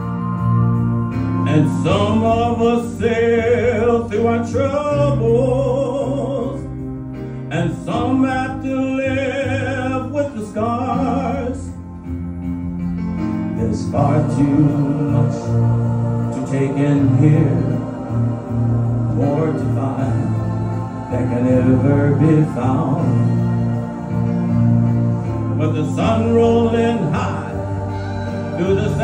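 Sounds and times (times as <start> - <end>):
karaoke backing track: 0.0 - 29.0
man singing with vibrato: 1.4 - 6.9, 7.5 - 11.8, 13.6 - 24.2, 25.4 - 29.0.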